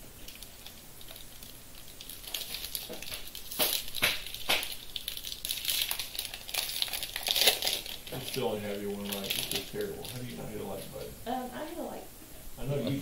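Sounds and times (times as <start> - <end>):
plastic wrapper crinkling: 0.2 - 10.9.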